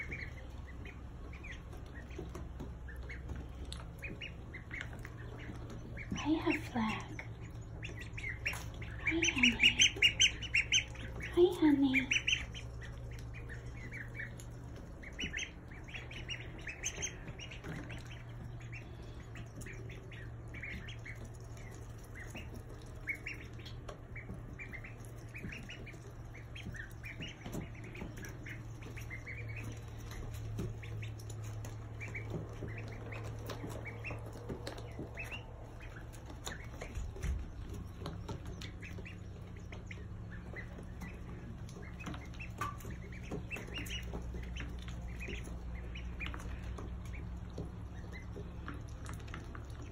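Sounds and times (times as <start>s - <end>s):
ducklings peeping: 0.0s - 49.9s
steady low hum: 0.0s - 49.9s.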